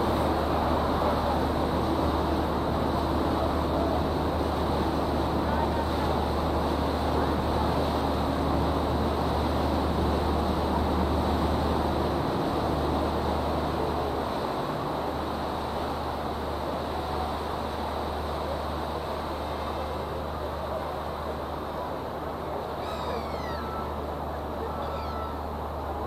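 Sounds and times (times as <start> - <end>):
boat engine low rumble: 0.0 - 26.0
water wash: 0.0 - 26.0.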